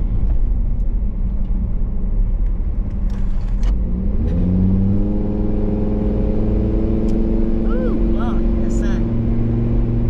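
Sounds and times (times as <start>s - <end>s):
car engine: 0.0s - 10.0s
road rumble: 0.0s - 10.0s.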